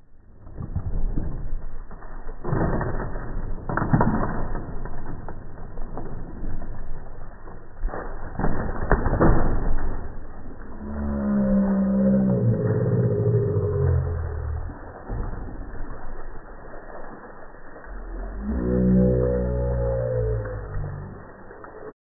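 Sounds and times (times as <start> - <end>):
basketball hoop rumbling and clattering: 0.0 - 22.0.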